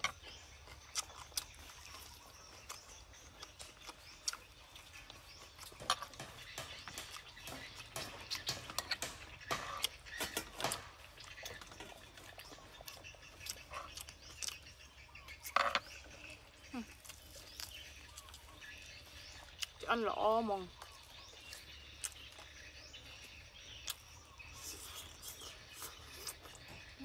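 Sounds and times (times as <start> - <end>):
wet chewing and lip smacks: 0.0 - 19.9, 20.7 - 27.0.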